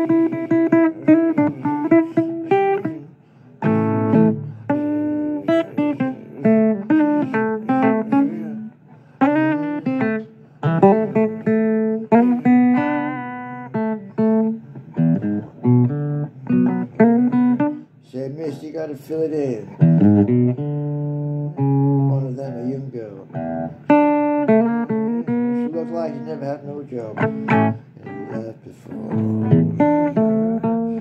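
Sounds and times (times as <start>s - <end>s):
acoustic guitar blues: 0.0s - 31.0s.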